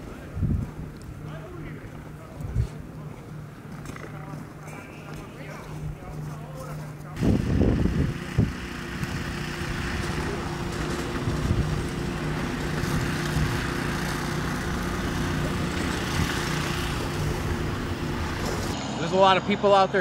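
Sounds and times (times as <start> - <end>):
engine humming with hiss: 0.0 - 20.0.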